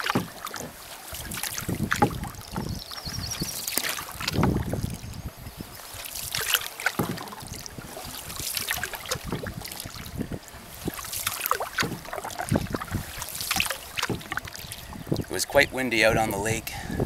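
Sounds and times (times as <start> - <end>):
water splashing along canoe hull: 0.0 - 17.0
wind on microphone: 1.1 - 6.4, 7.0 - 17.0.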